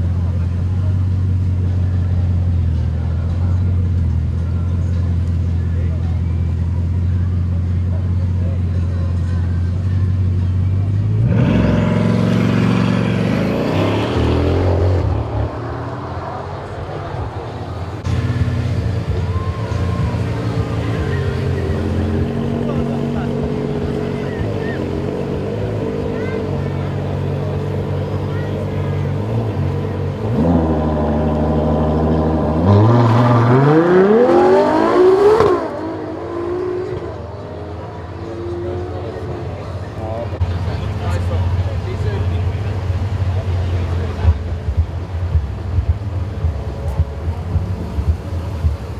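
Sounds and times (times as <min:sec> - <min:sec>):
car engine accelerating hard: 0:00.0 - 0:48.9.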